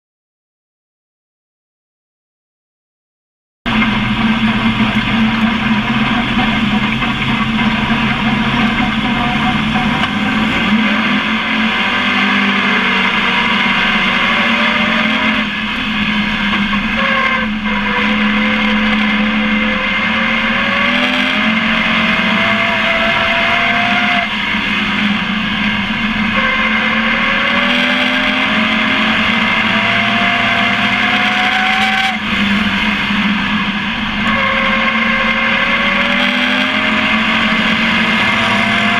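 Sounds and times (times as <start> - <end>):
race truck engine: 3.7 - 38.9
road noise: 3.7 - 38.9.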